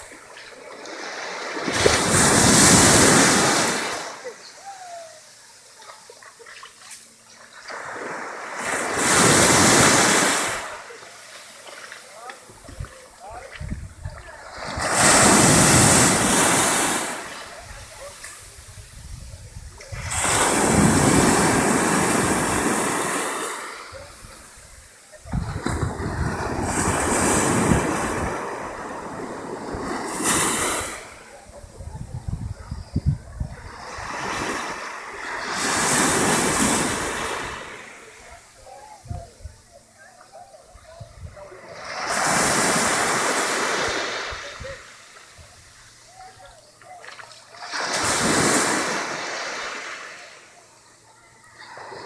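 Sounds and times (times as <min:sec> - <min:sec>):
sea waves breaking on beach: 0:00.0 - 0:31.6, 0:33.5 - 0:38.8, 0:40.9 - 0:50.6.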